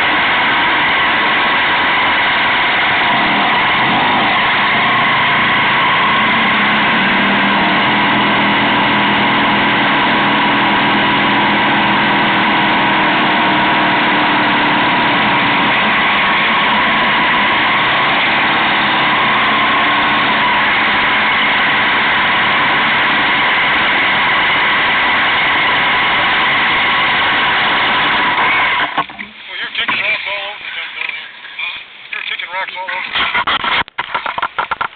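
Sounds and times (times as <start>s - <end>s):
motorcycle engine running: 0.0s - 29.9s
steady rushing noise: 0.0s - 34.9s.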